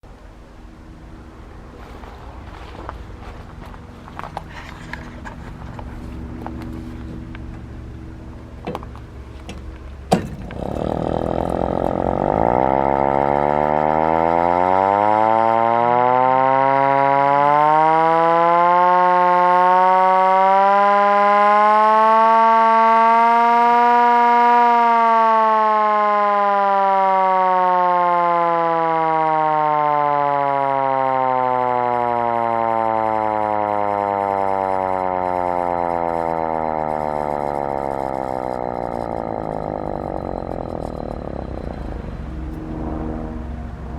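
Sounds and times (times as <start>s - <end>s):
fire truck siren: 0.6s - 43.9s.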